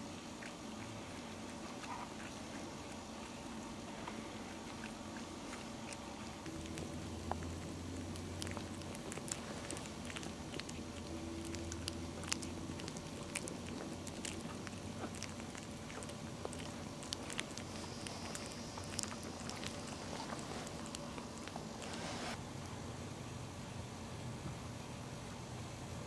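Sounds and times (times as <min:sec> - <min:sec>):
puppies eating wet food: 0:00.0 - 0:22.4
low steady hum: 0:00.0 - 0:26.0.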